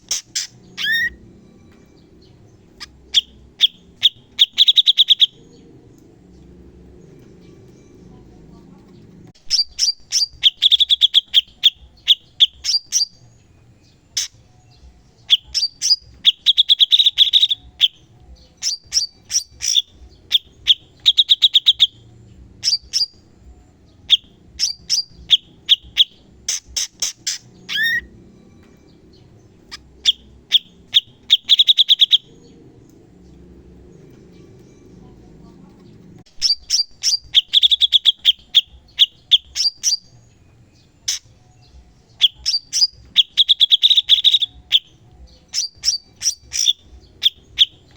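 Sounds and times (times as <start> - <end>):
bird singing rapid trills: 0.0 - 47.9.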